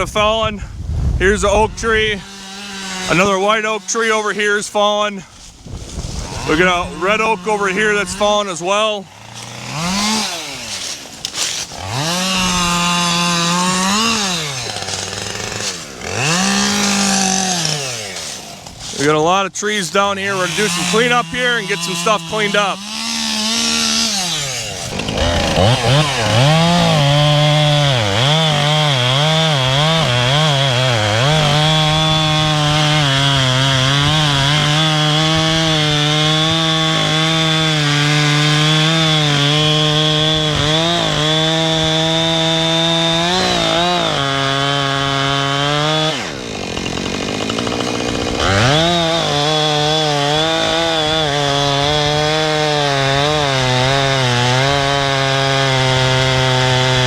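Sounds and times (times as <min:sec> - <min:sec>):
chainsaw cutting wood: 0:01.7 - 0:57.0.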